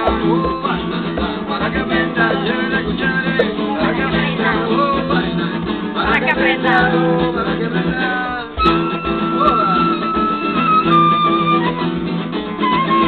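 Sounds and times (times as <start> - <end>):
acoustic guitar accompaniment: 0.0 - 13.0.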